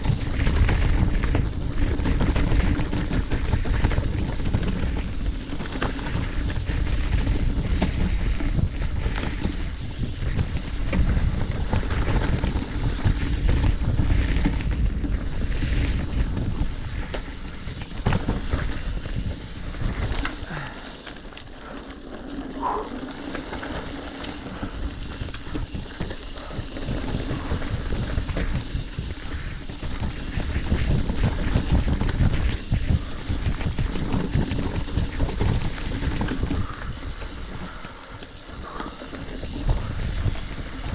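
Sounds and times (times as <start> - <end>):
bike rattling and knocking: 0.0 - 40.9
bike tyres rolling on dirt: 0.0 - 40.9
wind buffeting microphone: 0.0 - 40.9.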